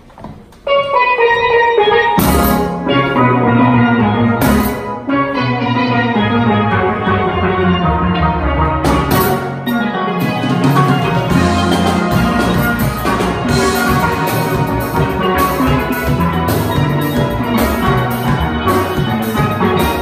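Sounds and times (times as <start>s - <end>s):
drum kit: 0.0s - 20.0s
steel pans playing: 0.7s - 20.0s.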